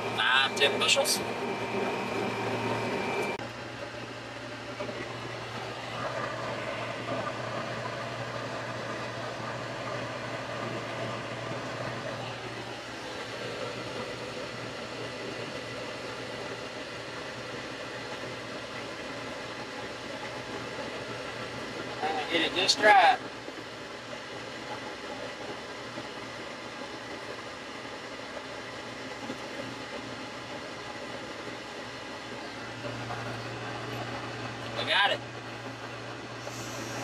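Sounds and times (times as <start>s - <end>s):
combine harvester engine drone: 0.0s - 37.0s.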